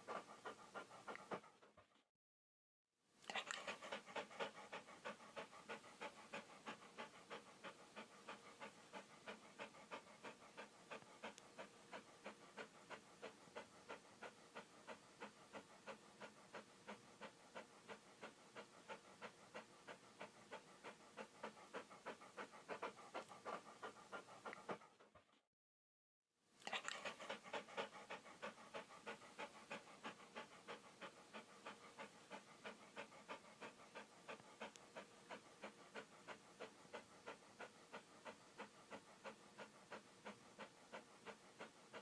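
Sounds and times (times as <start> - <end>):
dog panting: 0.0 - 2.1, 3.2 - 25.4, 26.6 - 42.0.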